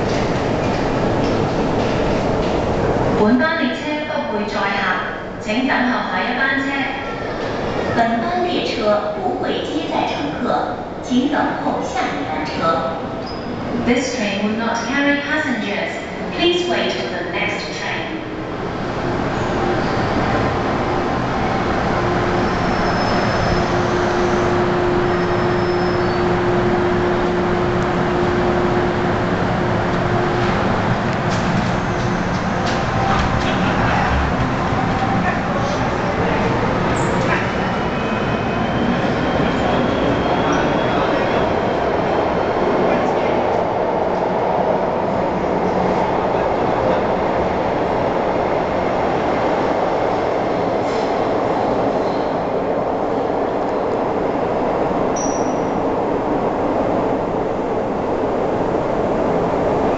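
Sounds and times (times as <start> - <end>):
train wheels rumbling on rails: 0.0 - 3.4, 14.6 - 59.9.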